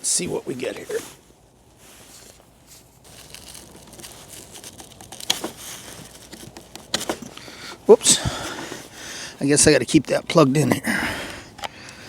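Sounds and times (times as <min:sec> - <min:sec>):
faint rustling and handling: 0:00.0 - 0:12.0.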